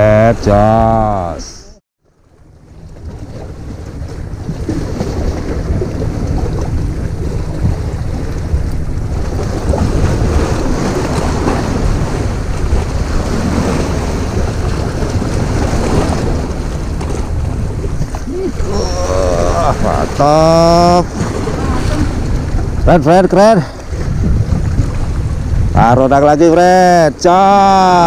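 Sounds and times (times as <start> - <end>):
wind buffeting microphone: 2.6 - 28.0
sea waves washing against rocks: 2.7 - 28.0.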